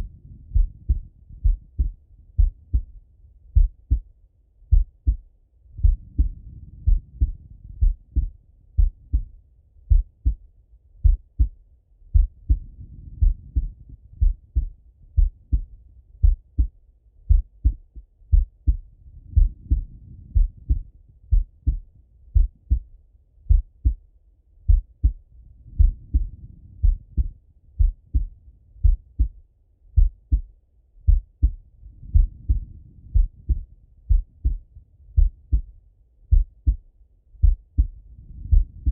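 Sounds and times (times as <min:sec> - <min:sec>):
heartbeat through stethoscope: 0:00.0 - 0:04.1, 0:04.7 - 0:24.0, 0:24.6 - 0:38.9.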